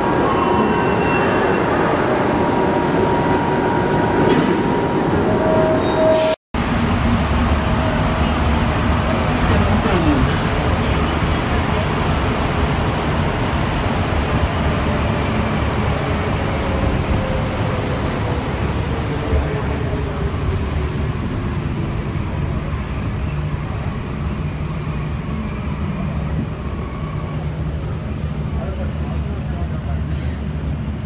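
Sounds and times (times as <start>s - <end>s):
metro train rumble: 0.0s - 31.0s.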